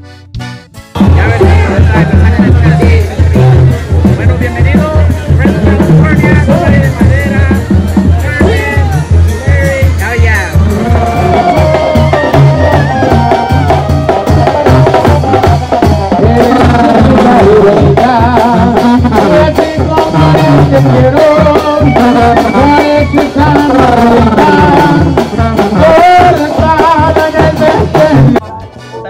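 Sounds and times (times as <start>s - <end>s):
fast bass drum beat: 0.0s - 28.8s
brass band playing: 0.0s - 29.0s.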